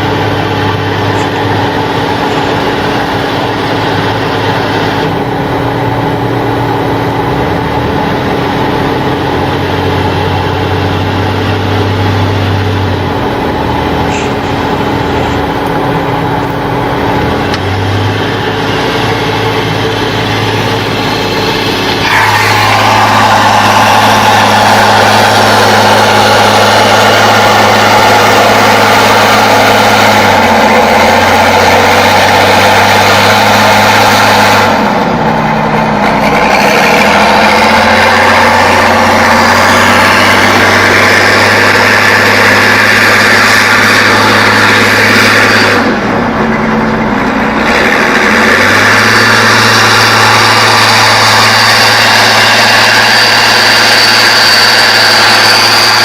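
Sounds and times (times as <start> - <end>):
off-road vehicle engine running hard: 0.0 - 56.0.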